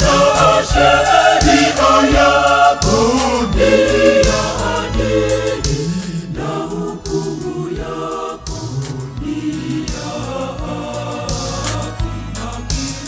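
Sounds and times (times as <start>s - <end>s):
choir singing a hymn: 0.0s - 13.0s
instrumental backing with beat: 0.0s - 13.0s.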